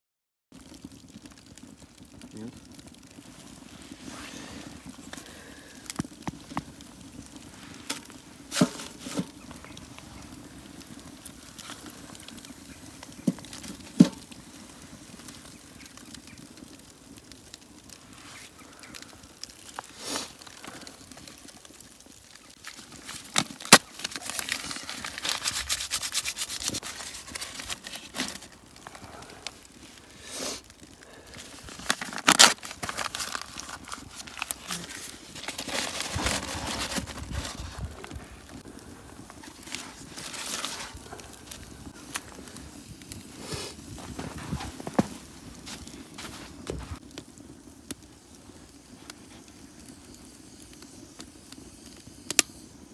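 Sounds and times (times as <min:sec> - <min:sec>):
campfire crackling: 0:00.5 - 0:52.9
sharp fire pops: 0:00.6 - 0:52.8.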